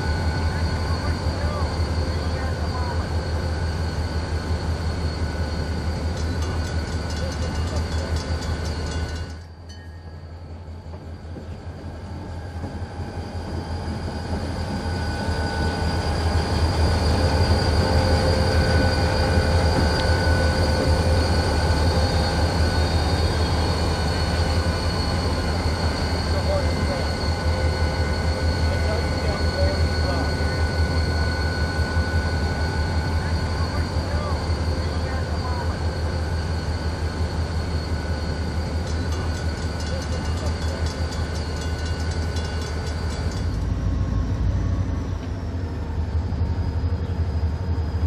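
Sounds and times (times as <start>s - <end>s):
diesel locomotive rumbling: 0.0s - 48.0s.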